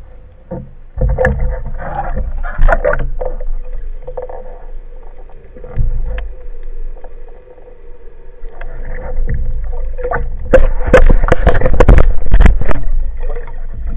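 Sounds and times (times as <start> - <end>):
dense crackles: 0.0 - 13.9
faint steady hum: 0.0 - 13.9
water sloshing and splashing: 0.0 - 13.9.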